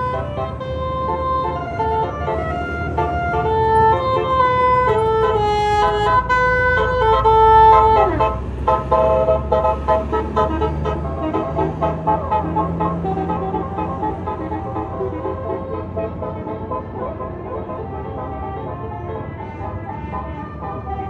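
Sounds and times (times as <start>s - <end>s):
bus engine hum: 0.0s - 21.0s
multi-tone bus horn tune: 0.0s - 21.0s.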